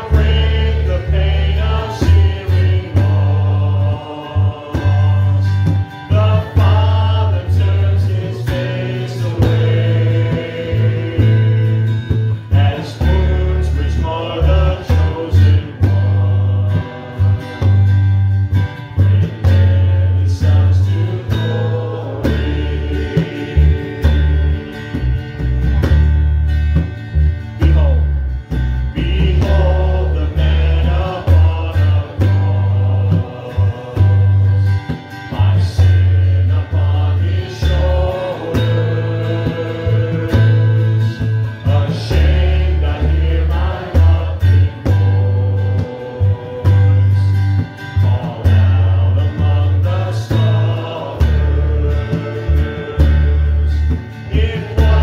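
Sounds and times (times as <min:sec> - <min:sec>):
voices singing: 0:00.0 - 0:27.0, 0:27.6 - 0:55.0
conga drum: 0:00.0 - 0:55.0
electric bass guitar: 0:00.0 - 0:55.0
strummed acoustic guitar: 0:00.0 - 0:55.0.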